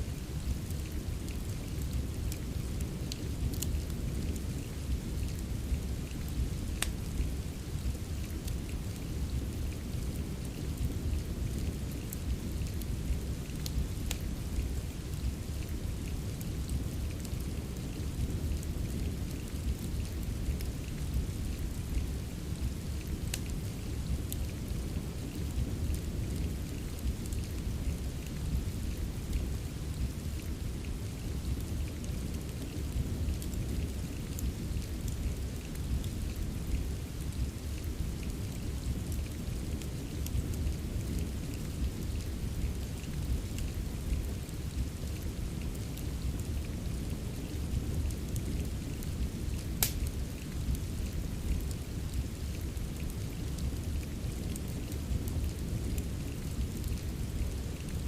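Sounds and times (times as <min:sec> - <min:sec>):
soft rain: 0:00.0 - 0:58.0
wood fire crackling: 0:00.0 - 0:58.0.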